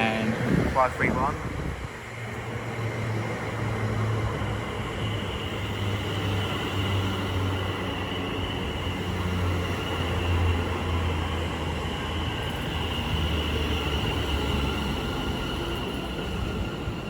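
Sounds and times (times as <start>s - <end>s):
electric train humming and whining: 0.0s - 17.0s.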